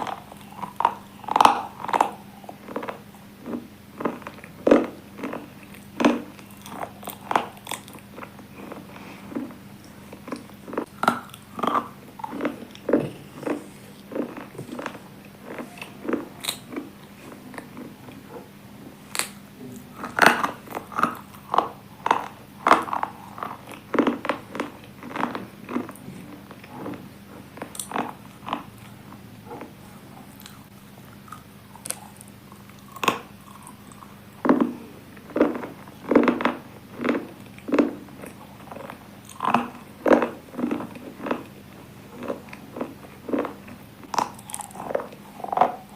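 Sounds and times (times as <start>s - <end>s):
crunching of slate being chewed: 0.0s - 45.9s.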